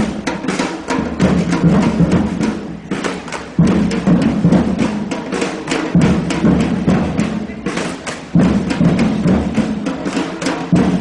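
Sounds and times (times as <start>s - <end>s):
drum group playing driving rhythm: 0.0s - 11.0s.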